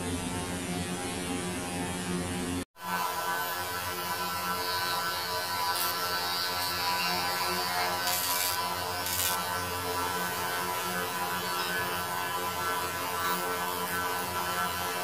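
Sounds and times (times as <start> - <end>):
steady electric buzz: 0.0 - 15.0.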